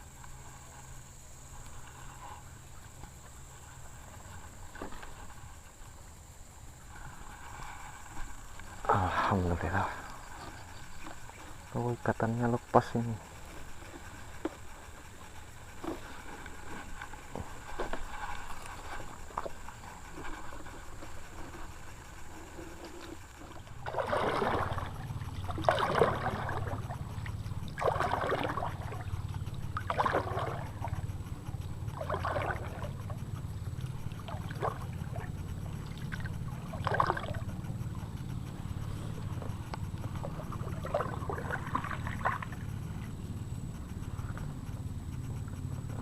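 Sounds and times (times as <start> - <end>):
paddle strokes in water: 0.0 - 46.0
steady low hum: 0.0 - 46.0.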